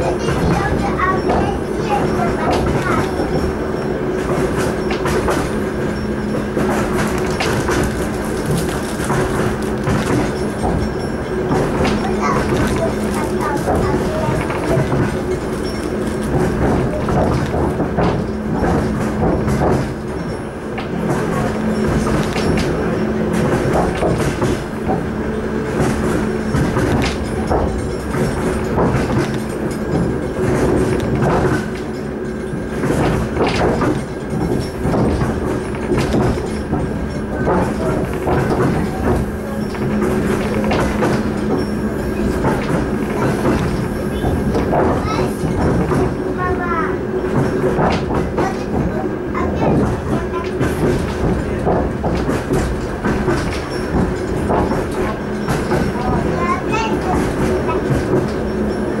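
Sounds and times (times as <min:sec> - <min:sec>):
train rumble and hum: 0:00.0 - 0:59.0
wheels clacking over rail joints: 0:00.0 - 0:59.0.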